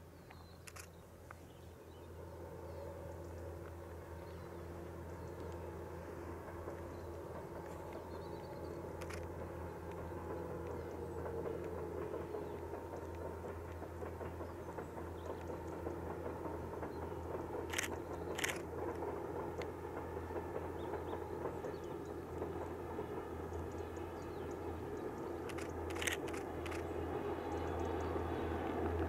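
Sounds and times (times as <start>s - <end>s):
distant train rumbling: 0.0s - 29.0s.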